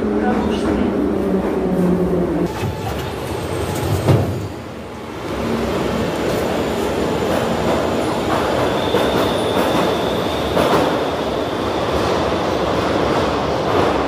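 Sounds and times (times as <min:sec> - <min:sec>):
metro train rumble and hiss: 0:00.0 - 0:14.0.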